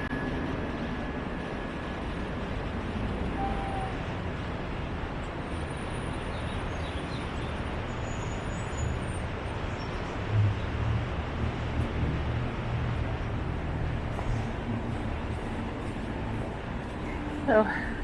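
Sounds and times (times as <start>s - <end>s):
continuous rushing hiss: 0.0s - 18.0s
passing traffic rumble: 0.0s - 18.0s
vehicle low rumble: 0.0s - 18.0s.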